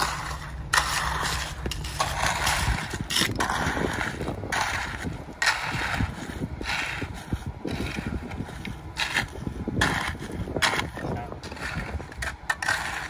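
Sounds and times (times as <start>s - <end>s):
concrete mixer truck rumbling: 0.0s - 13.0s
rakes scraping wet concrete: 0.0s - 13.0s.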